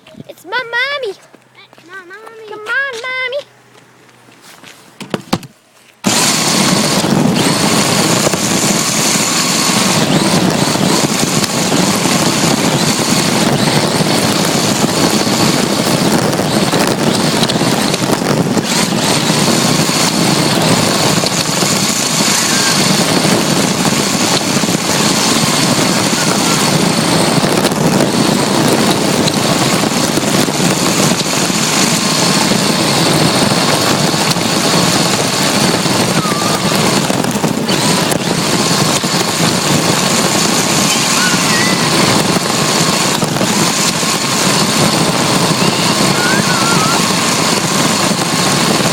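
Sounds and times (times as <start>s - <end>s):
wheel and ground rumble: 0.0s - 48.9s
rc car drivetrain noise: 6.0s - 48.9s
thin high whine: 6.0s - 48.9s.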